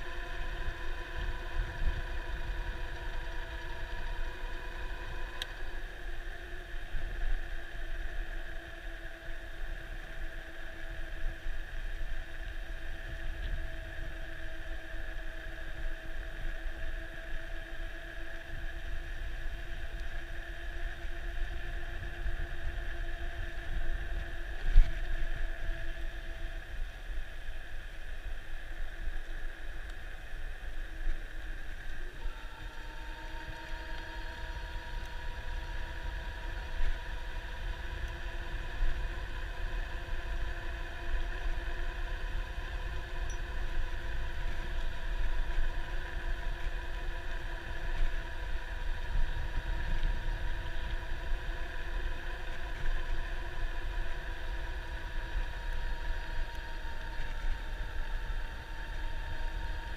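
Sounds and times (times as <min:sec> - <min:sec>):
electric motor whine: 0:00.0 - 0:59.9
wind and road rumble: 0:00.0 - 0:59.9.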